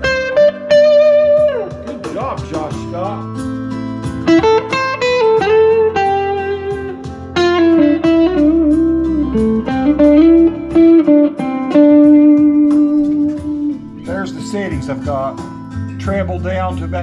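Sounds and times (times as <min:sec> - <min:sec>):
electric guitar lead: 0:00.0 - 0:16.0
backing track with drum beat: 0:00.0 - 0:17.0.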